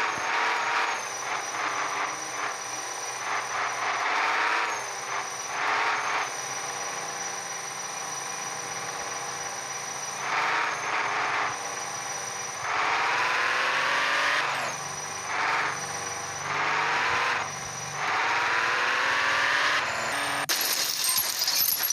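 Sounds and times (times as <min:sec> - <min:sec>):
toy car electric motor whining: 0:00.0 - 0:21.9.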